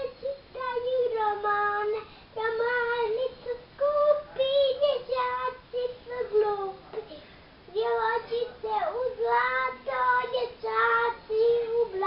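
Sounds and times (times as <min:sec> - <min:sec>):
girl singing: 0:00.0 - 0:12.0.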